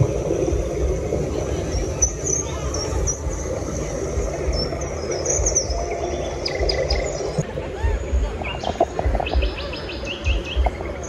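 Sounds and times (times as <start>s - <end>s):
birdsong over loudspeakers: 0.0s - 11.0s
murmur of crowd: 0.0s - 11.0s.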